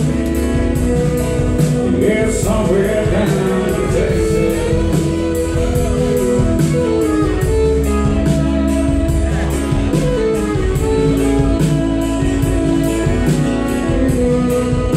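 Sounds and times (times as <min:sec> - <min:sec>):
bass guitar: 0:00.0 - 0:14.9
pedal steel guitar: 0:00.0 - 0:14.9
steady drum beat: 0:00.0 - 0:14.9.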